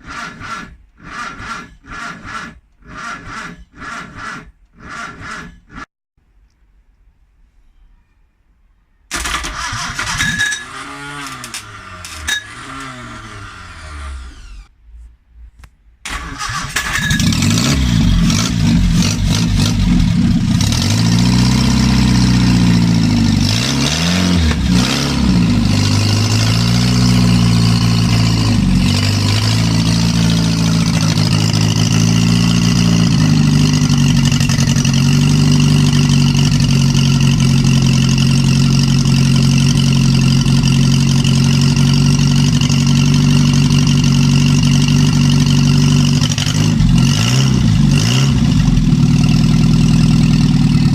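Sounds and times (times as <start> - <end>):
car engine starting and running: 0.0 - 5.9, 9.1 - 14.7, 16.0 - 50.9.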